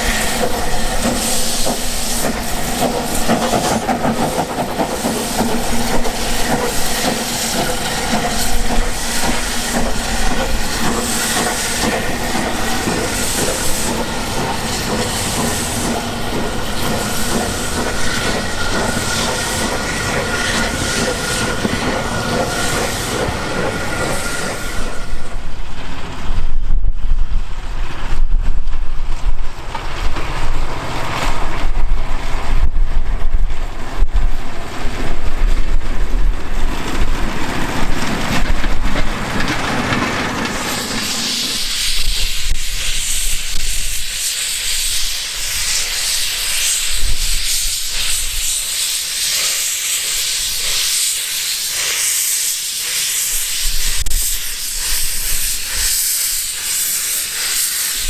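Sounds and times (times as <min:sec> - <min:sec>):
steam hissing: 0:00.0 - 0:25.8, 0:34.7 - 0:58.0
rail trolley rumbling: 0:00.0 - 0:58.0.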